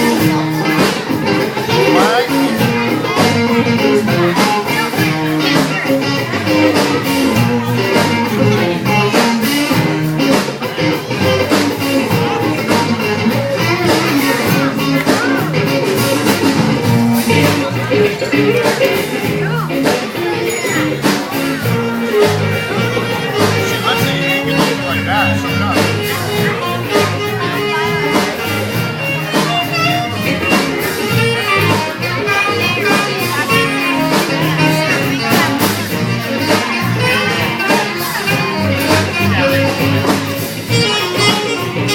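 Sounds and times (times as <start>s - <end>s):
electric guitar: 0.0s - 41.9s
live rock band playing: 0.0s - 41.9s
steady drum beat: 0.0s - 41.9s.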